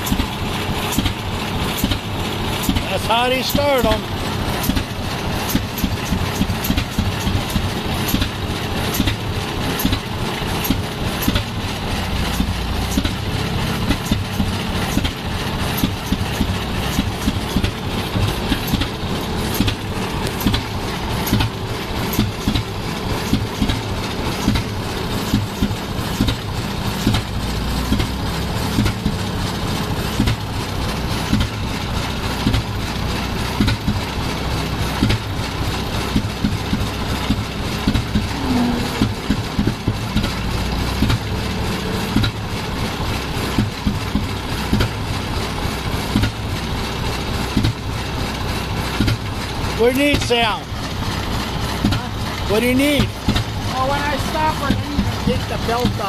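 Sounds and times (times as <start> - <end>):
tractor engine knocking: 0.0 - 56.0.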